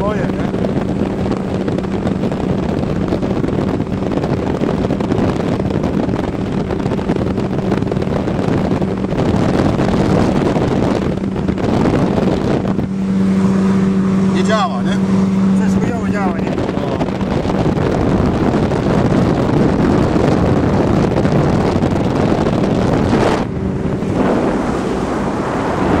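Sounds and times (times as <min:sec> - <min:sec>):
outboard motor droning: 0:00.0 - 0:26.0
wind buffeting microphone: 0:00.0 - 0:26.0.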